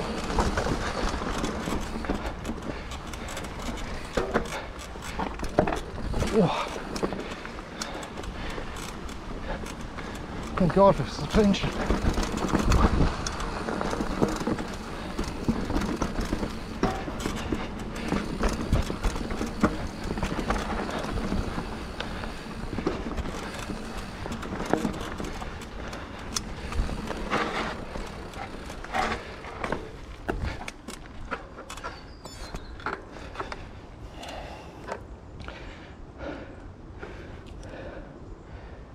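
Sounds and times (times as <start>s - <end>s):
bike tyres rumbling on dirt: 0.0s - 34.9s
bike knocking and rattling: 0.0s - 36.4s.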